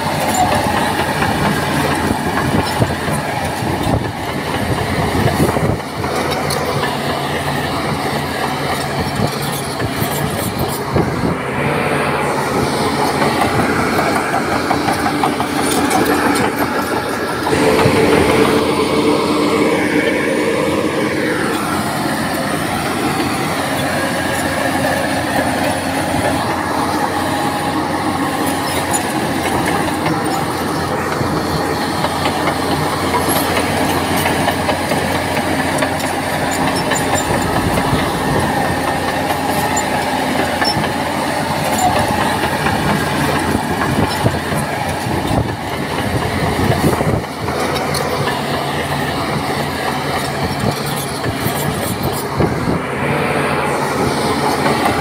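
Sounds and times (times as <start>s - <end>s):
bulldozer diesel engine running: 0.0s - 55.0s
steel tracks clattering and squealing: 0.0s - 55.0s.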